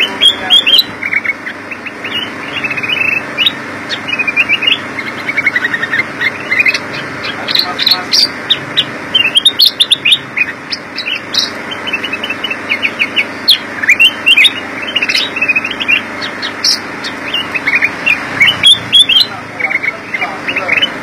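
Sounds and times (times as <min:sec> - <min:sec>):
bird chirping song: 0:00.0 - 0:21.0.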